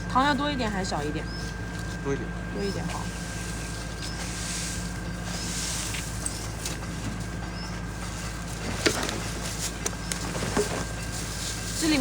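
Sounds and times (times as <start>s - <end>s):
outdoor background noise: 0.0s - 12.0s
steady low hum: 0.0s - 12.0s.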